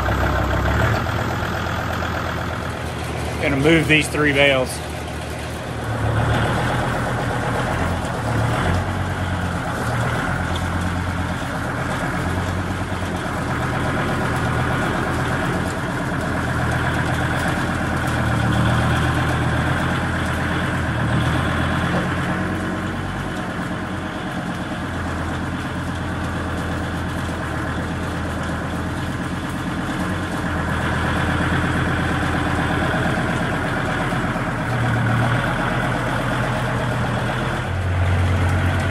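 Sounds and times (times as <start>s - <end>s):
diesel tractor engine running: 0.0s - 38.9s.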